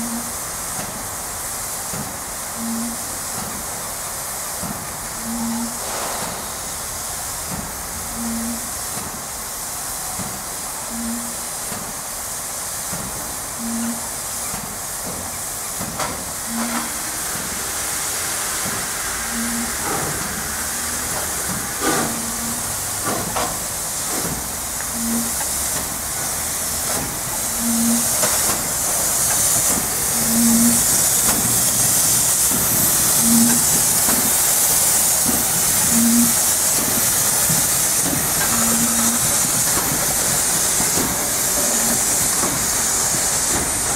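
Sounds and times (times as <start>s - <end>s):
steam locomotive hissing: 0.0s - 43.9s.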